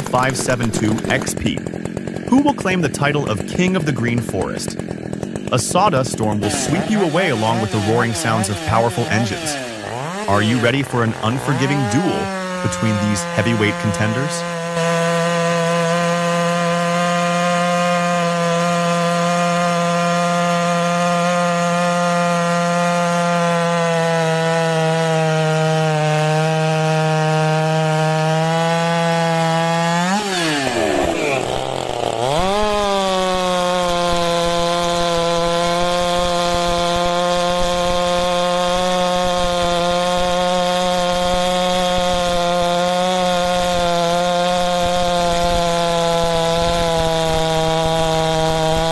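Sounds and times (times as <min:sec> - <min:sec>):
chainsaws cutting into log: 0:00.0 - 0:48.9.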